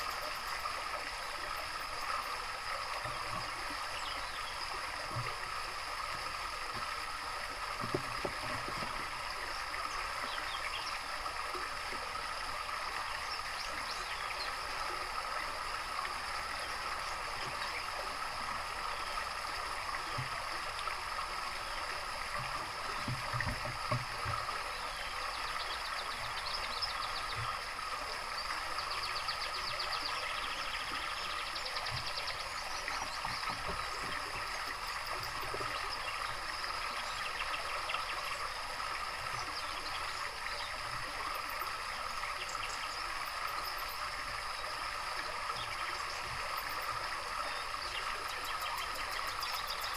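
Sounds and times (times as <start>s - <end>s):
songbirds trilling: 0.0s - 11.2s, 20.1s - 49.9s
water trickling and gurgling: 0.0s - 49.9s.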